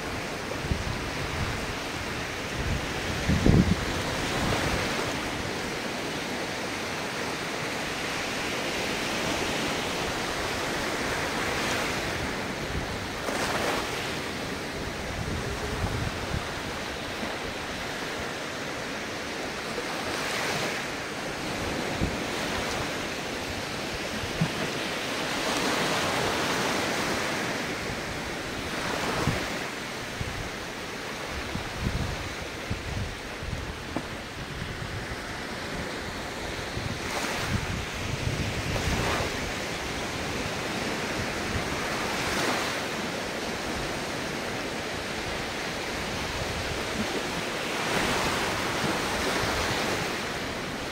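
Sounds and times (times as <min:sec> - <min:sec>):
wind rumble on microphone: 0:00.0 - 0:06.0, 0:07.2 - 0:50.9
ocean surf breaking: 0:00.0 - 0:50.9.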